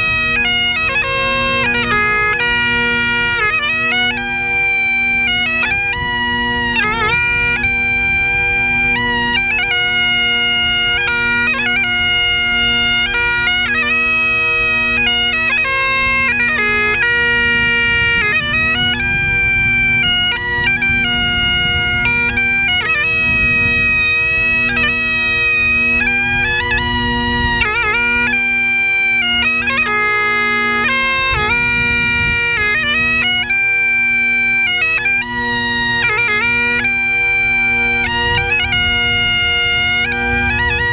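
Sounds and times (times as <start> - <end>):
bagpipes playing a tune: 0.0 - 40.9
wind buffeting microphone: 0.0 - 40.9.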